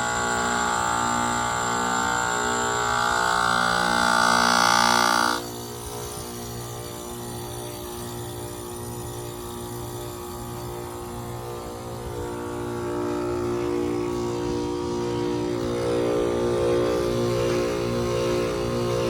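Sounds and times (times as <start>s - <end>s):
heat pump humming: 0.0s - 19.0s.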